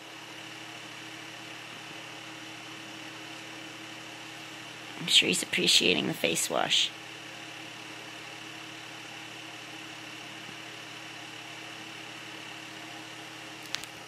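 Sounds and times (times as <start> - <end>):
room hum and hiss: 0.0 - 14.0.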